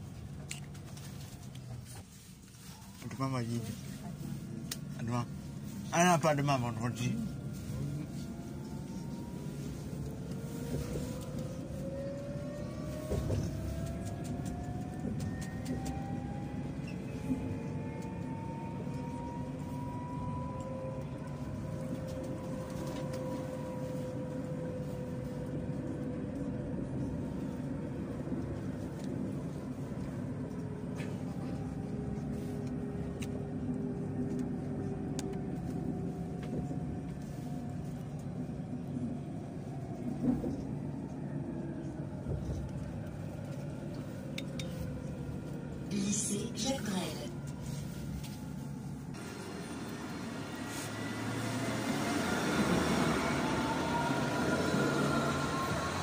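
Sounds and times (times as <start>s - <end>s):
low rumble of wheels on rails: 0.0s - 56.0s
tram traction drive whining: 8.4s - 47.6s, 48.4s - 56.0s.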